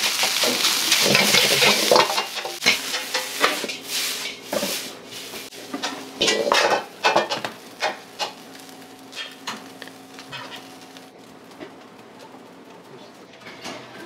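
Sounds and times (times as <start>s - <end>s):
food sizzling: 0.0s - 14.0s.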